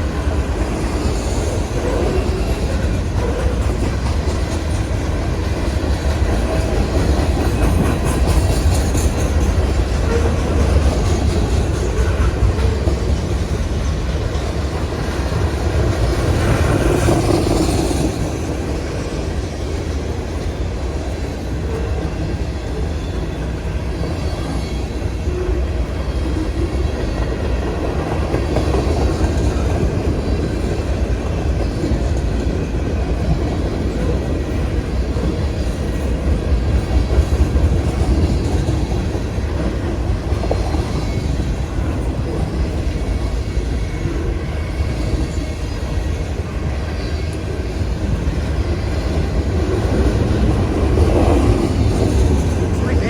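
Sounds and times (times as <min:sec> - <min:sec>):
freight train cars rumbling past: 0:00.0 - 0:53.0.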